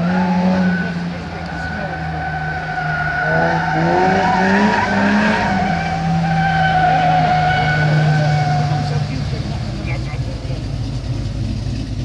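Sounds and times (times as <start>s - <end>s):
engine revving: 0.0s - 12.0s
tyres squealing on asphalt: 0.0s - 12.0s.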